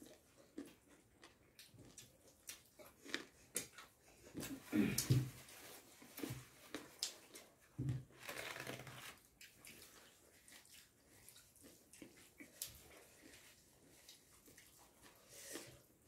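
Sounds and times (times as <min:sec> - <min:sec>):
soft chewing: 0:00.0 - 0:08.3, 0:09.0 - 0:16.0.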